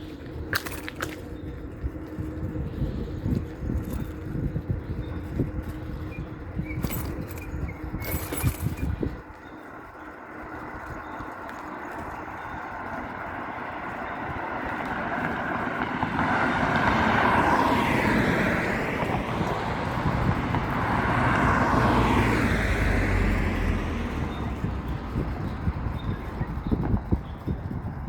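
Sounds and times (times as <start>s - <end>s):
vehicles passing by: 0.0s - 28.0s.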